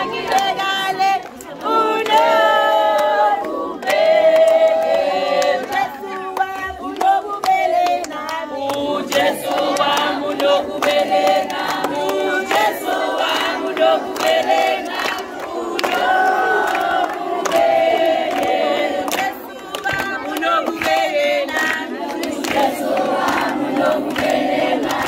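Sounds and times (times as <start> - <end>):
children and women singing: 0.0 - 25.0
hand clapping: 0.2 - 25.0.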